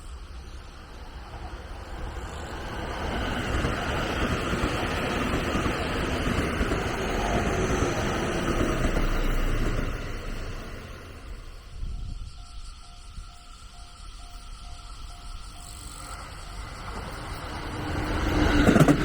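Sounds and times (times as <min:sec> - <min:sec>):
train passing by: 0:00.0 - 0:19.0.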